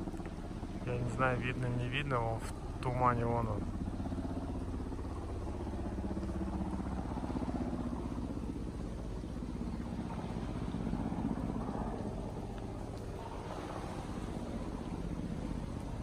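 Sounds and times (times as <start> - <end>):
distant helicopter drone: 0.0 - 16.0.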